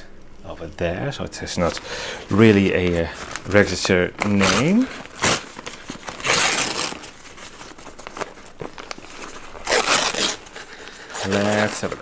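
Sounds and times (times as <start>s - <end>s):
paper crinkling: 1.6s - 12.0s.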